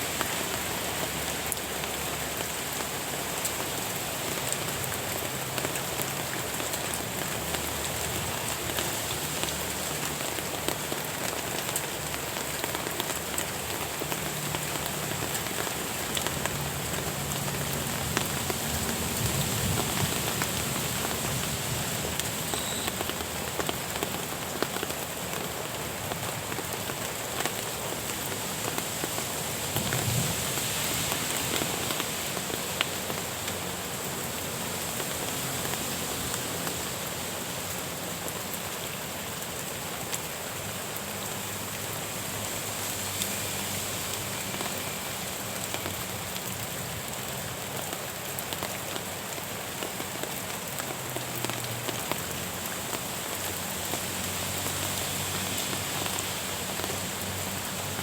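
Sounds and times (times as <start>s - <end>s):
raindrops ticking: 0.0s - 58.0s
steady rain hiss: 0.0s - 58.0s.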